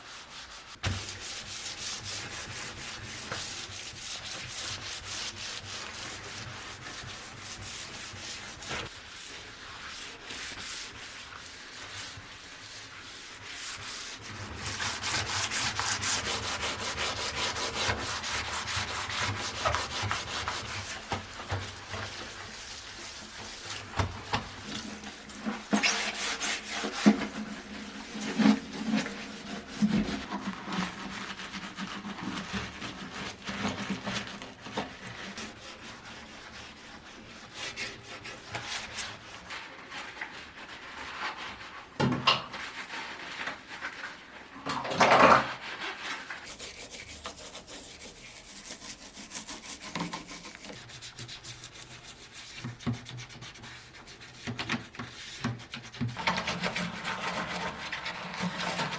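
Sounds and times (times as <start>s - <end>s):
hand scrubbing a hard surface: 0.0s - 41.9s, 45.4s - 58.9s.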